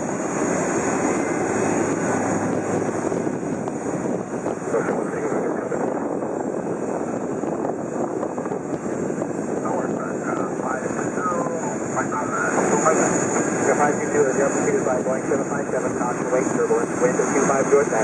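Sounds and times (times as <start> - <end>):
jet turbine whine: 0.0 - 18.0
wind buffeting microphone: 0.0 - 18.0.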